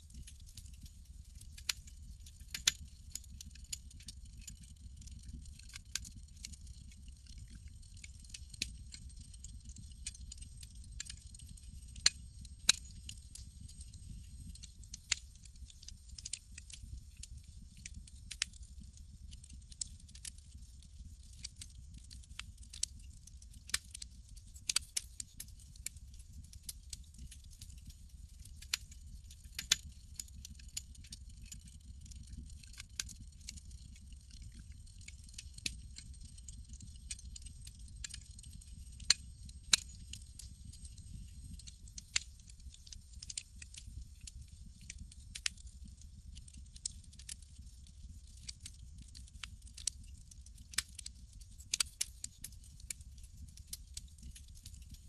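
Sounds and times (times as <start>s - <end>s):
campfire crackling and popping: 0.1s - 54.9s
rumble of burning wood: 0.1s - 55.0s.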